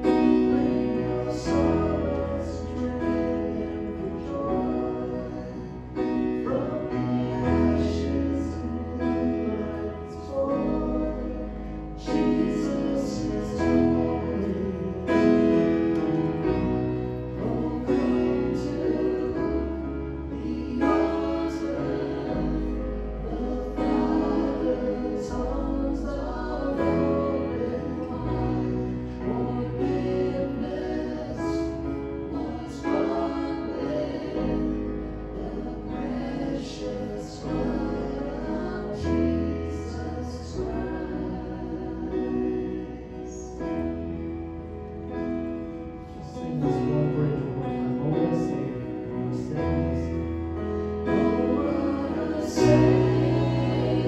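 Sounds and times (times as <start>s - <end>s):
voices singing together: 0.0s - 44.7s, 46.0s - 54.0s
bass line: 0.0s - 54.0s
piano: 0.0s - 54.0s.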